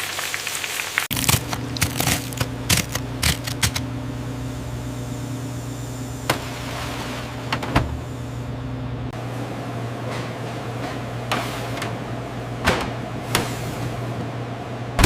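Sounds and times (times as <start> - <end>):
low mechanical hum: 1.1 - 15.0.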